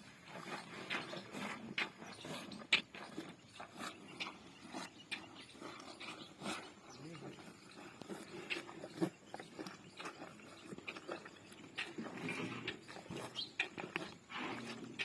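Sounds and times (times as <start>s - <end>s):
buffaloes crunching feed: 0.0s - 15.0s.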